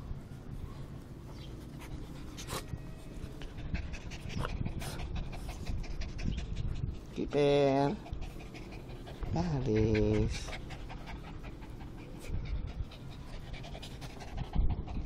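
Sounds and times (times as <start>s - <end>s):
small dog panting: 1.3s - 15.0s.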